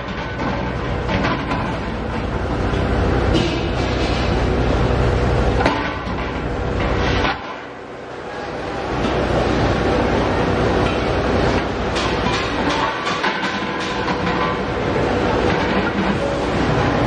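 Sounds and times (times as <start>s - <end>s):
heavy factory machinery rumble: 0.0s - 17.0s.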